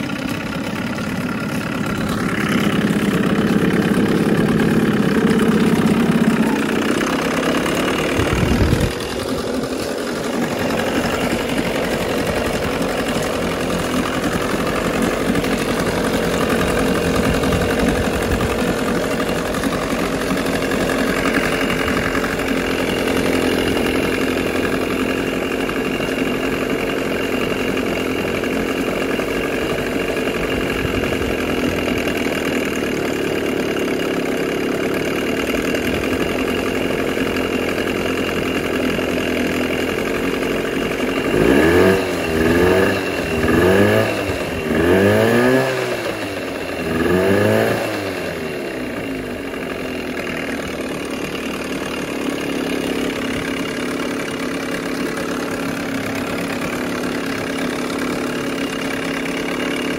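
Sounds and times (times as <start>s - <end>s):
outboard engine running: 0.0s - 59.9s.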